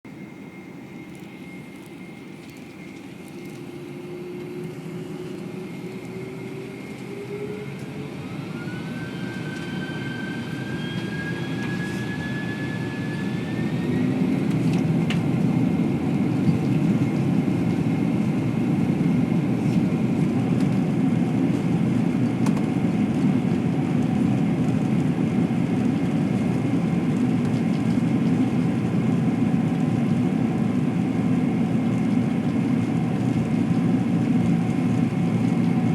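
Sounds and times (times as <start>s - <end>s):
jet engines spooling up: 0.1s - 35.9s.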